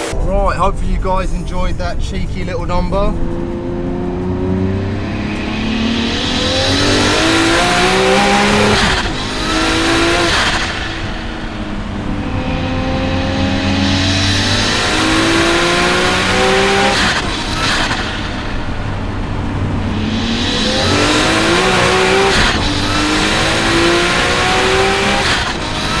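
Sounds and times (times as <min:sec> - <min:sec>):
car engine revving hard: 0:02.1 - 0:26.0
loud steady hiss: 0:05.0 - 0:26.0.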